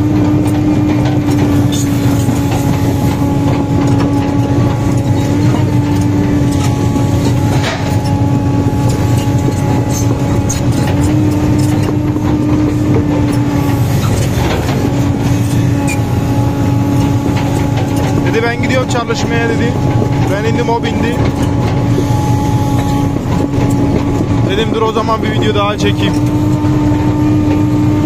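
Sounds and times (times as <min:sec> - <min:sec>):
excavator diesel engine and hydraulics: 0:00.0 - 0:28.0
steady whine: 0:00.0 - 0:28.0.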